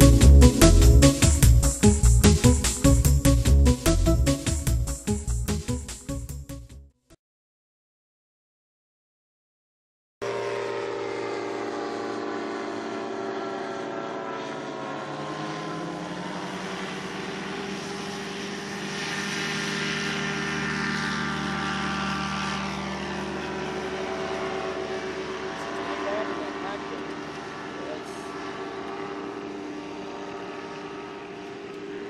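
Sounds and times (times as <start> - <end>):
light aircraft engine and propeller: 0.0 - 6.5, 10.2 - 32.0.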